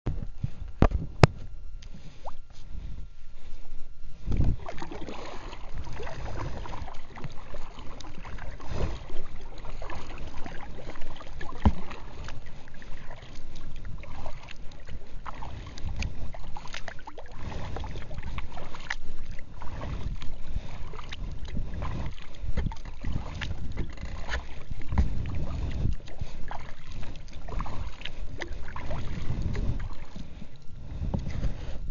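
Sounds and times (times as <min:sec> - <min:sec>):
water washing along hull: 0:00.1 - 0:31.9
paddle splashes and drips: 0:04.3 - 0:31.8.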